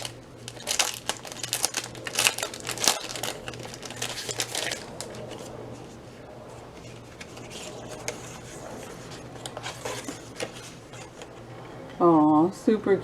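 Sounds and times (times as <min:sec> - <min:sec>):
packaging crinkling and rustling: 0:00.0 - 0:06.0, 0:06.7 - 0:11.4.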